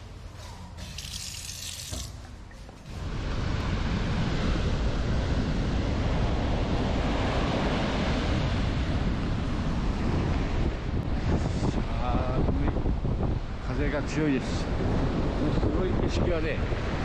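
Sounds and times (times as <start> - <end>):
ocean surf: 3.0 - 17.0
strong wind into microphone: 3.0 - 17.0.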